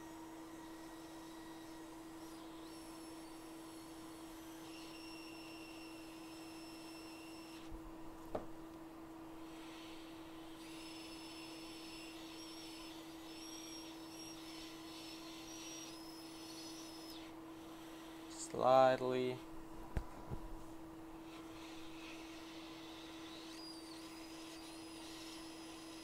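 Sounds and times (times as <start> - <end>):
faint high-pitched whines: 0.0 - 26.0
low electrical hum: 0.0 - 26.0.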